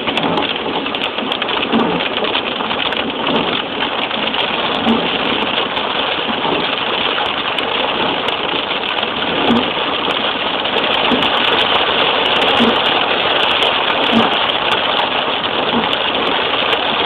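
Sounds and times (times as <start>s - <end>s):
rain: 0.0s - 17.0s
tyre spray on wet road: 0.0s - 17.0s.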